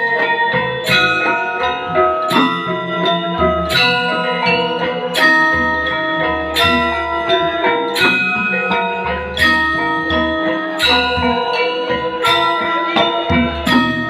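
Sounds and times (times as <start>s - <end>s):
gamelan music: 0.0s - 14.0s.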